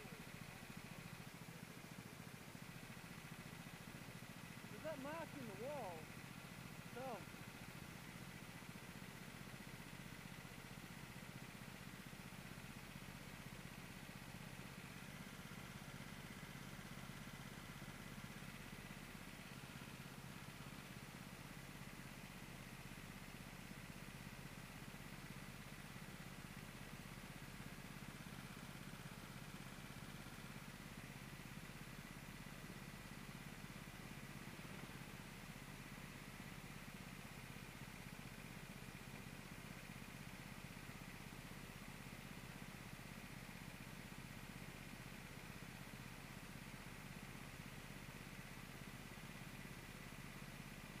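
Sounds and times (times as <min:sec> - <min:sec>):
go-kart engines idling: 0:00.0 - 0:51.0.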